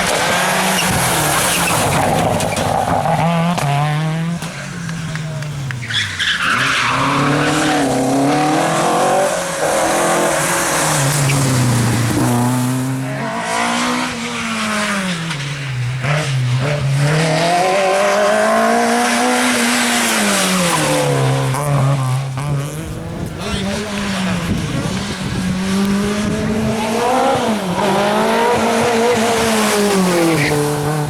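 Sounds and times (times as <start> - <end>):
rally car engine revving: 0.0 - 31.0.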